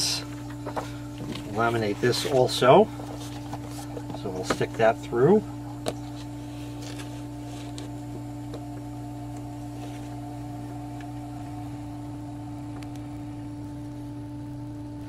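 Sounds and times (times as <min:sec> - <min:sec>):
laminator motor hum: 0:00.0 - 0:15.0.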